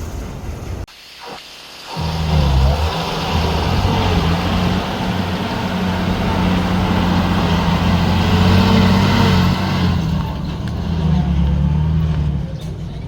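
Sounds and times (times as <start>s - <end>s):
heavy diesel engine under load: 0.0s - 0.9s, 1.9s - 13.0s.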